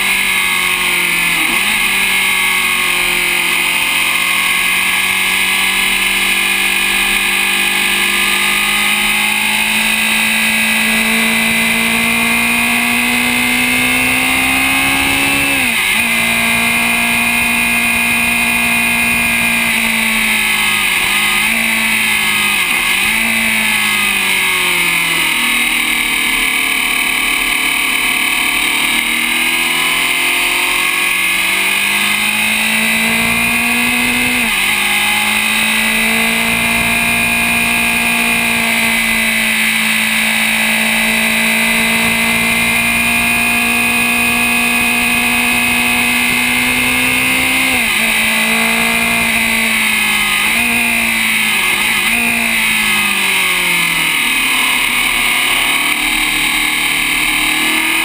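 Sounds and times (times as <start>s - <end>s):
racing car engine at speed: 0.0s - 58.0s.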